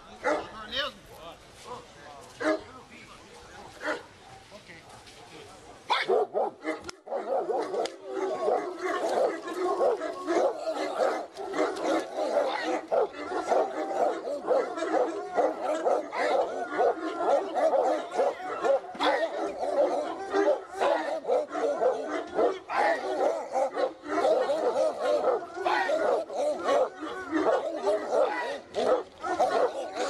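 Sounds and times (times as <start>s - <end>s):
dog barking: 0.2s - 0.5s, 2.4s - 2.7s, 3.5s - 30.0s.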